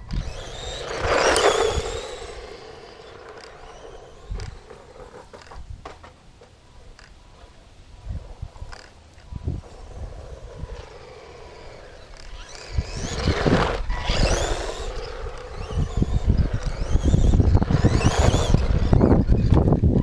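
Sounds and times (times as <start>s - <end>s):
toy truck motor whining: 0.0s - 5.6s, 8.8s - 20.0s.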